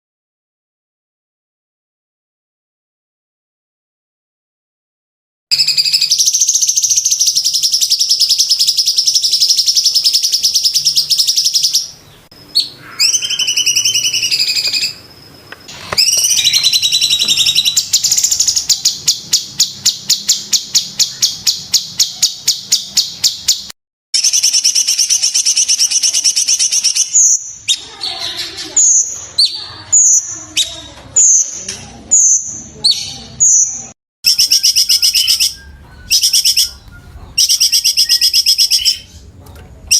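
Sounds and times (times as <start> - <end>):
songbird singing whistled phrases: 5.5 - 15.1, 15.7 - 27.9, 28.8 - 39.2.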